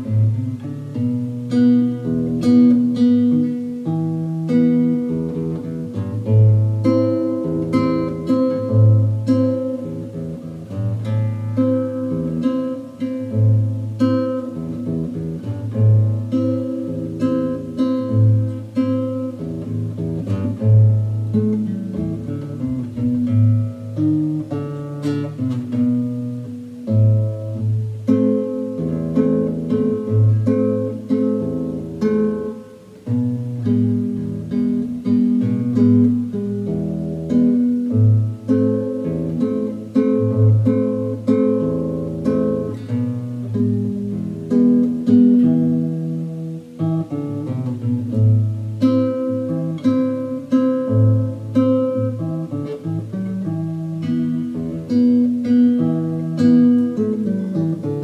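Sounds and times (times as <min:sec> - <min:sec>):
fingerstyle classical guitar: 0:00.0 - 0:58.0.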